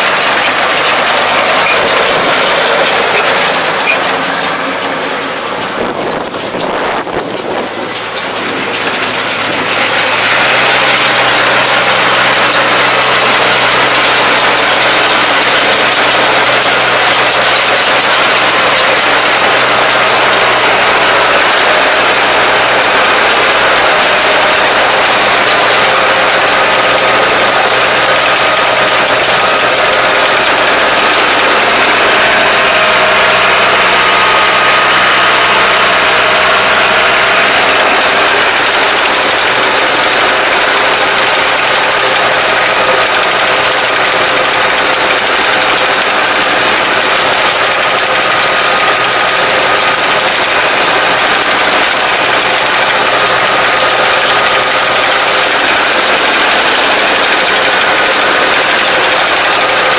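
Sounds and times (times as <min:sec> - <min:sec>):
tractor engine and baler din: 0:00.0 - 0:59.9.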